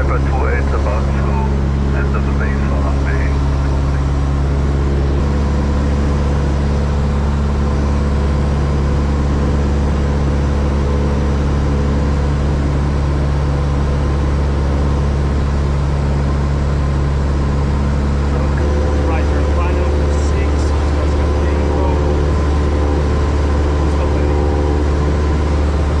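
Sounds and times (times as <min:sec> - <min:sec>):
small plane engine drone in cockpit: 0:00.0 - 0:26.0.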